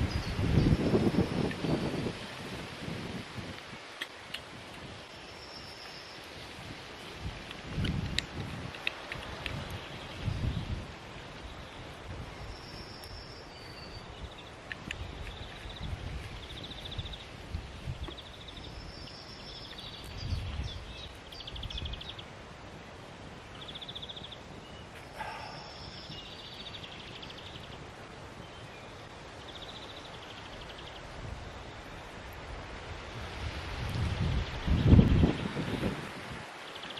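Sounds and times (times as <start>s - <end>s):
small birds singing trills: 0.0s - 2.3s, 5.0s - 22.4s, 23.4s - 32.2s, 34.3s - 36.9s
wind gusting over microphone: 0.0s - 36.9s.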